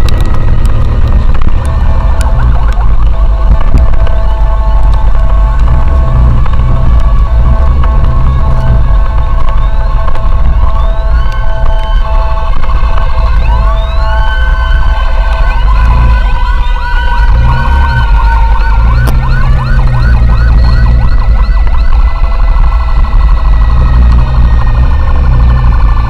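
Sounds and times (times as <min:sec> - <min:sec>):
emergency sirens: 0:00.0 - 0:26.0
steady low rumble: 0:00.0 - 0:26.0.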